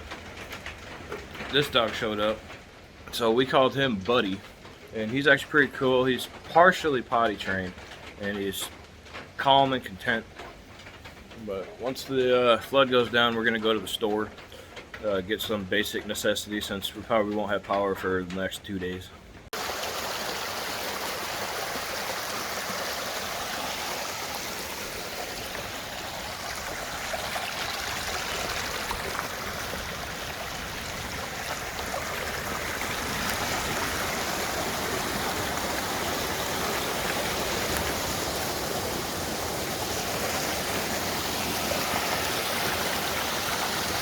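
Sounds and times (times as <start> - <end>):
floodwater rushing down a creek: 0.0 - 10.4, 11.4 - 17.9, 19.5 - 44.0.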